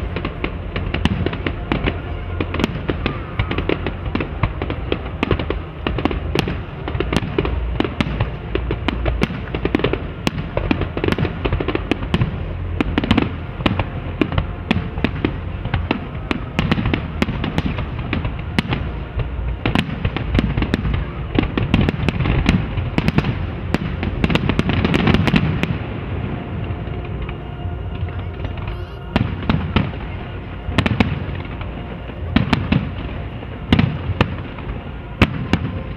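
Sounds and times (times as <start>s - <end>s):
fireworks bangs and crackles: 0.0s - 35.9s
low rumble: 0.0s - 35.9s.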